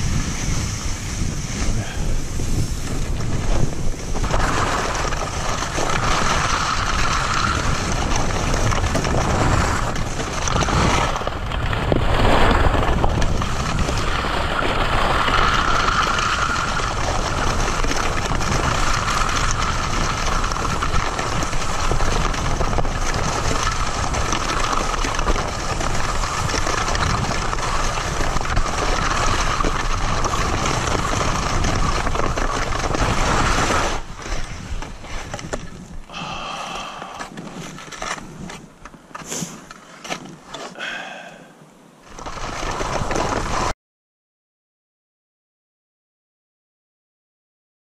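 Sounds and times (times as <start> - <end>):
wind rushing over microphone: 0.0 - 38.9
skis scraping over snow: 0.0 - 41.3, 42.0 - 43.8.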